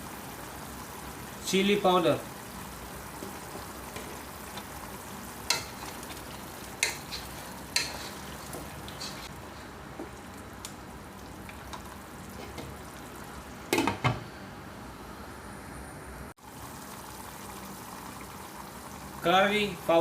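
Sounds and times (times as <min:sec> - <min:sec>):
beef sizzling in a pot: 0:00.0 - 0:13.9, 0:16.4 - 0:20.0.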